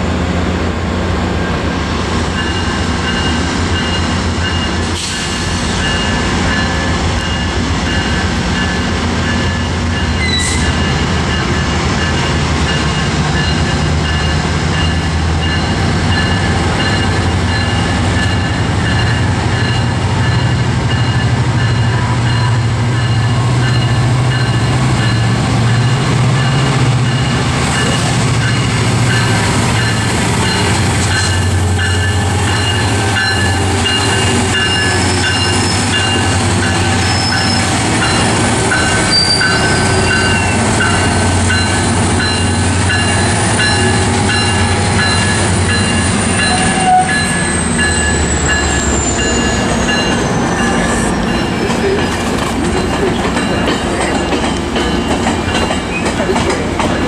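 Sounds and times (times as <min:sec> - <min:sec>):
diesel locomotive engine: 0:00.0 - 0:57.0
train coaches rolling past: 0:00.0 - 0:57.0.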